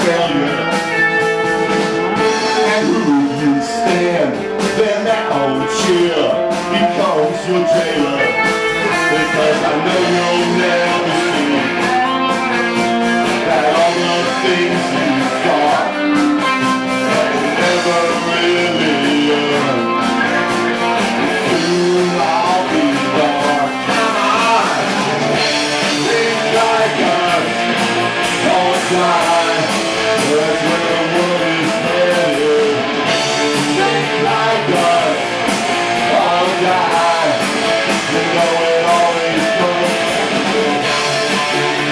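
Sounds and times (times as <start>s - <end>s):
bass guitar: 0.0s - 41.9s
electric guitar: 0.0s - 41.9s.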